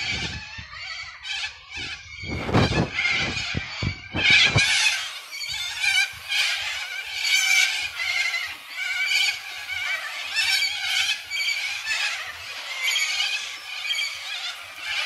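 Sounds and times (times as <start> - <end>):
flock of corellas screeching: 0.0 - 15.0.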